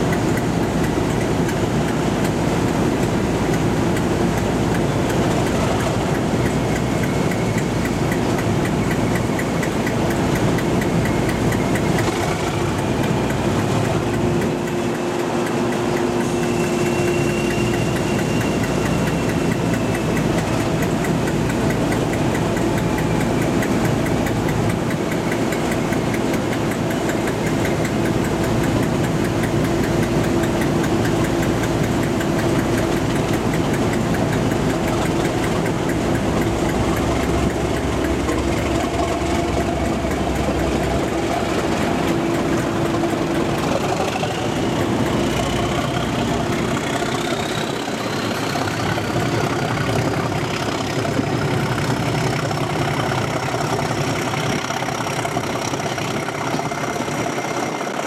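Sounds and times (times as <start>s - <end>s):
diesel locomotive engine idling: 0.0s - 58.0s.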